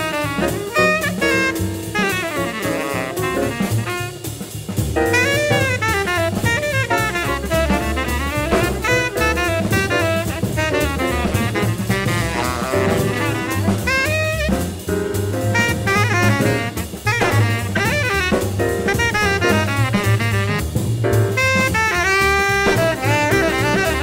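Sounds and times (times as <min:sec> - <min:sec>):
bass line: 0:00.0 - 0:24.0
swinging drum kit: 0:00.0 - 0:24.0
tenor saxophone jazz solo: 0:00.0 - 0:24.0.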